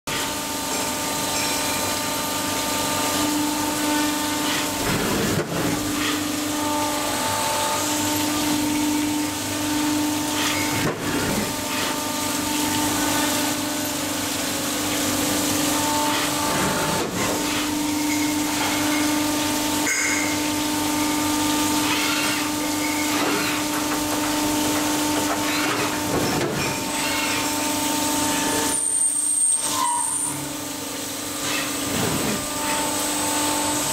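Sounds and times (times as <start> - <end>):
metal-cutting machine humming: 0.1 - 33.9.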